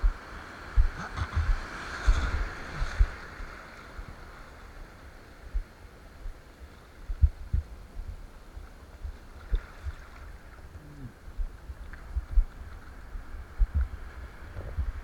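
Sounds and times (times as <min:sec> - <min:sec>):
faint surf: 0:00.0 - 0:15.0.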